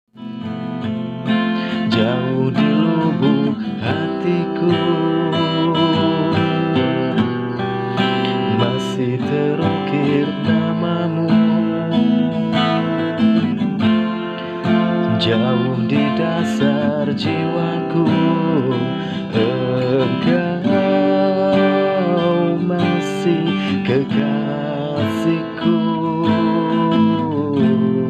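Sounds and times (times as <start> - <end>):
acoustic guitar strummed and picked: 0.1 - 28.0.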